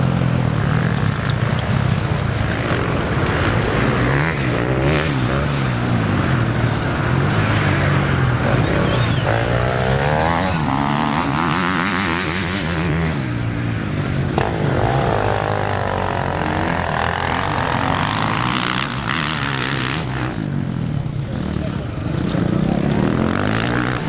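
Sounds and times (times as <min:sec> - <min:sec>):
motocross engines revving: 0:00.0 - 0:24.0.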